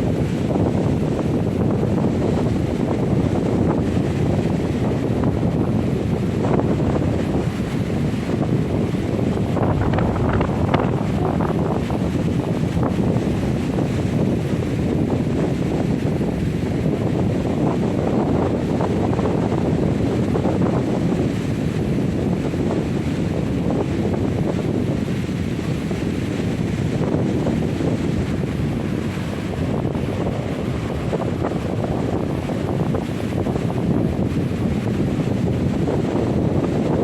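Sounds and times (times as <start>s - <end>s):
heavy surf breaking: 0.0s - 37.0s
wind buffeting microphone: 0.0s - 37.0s.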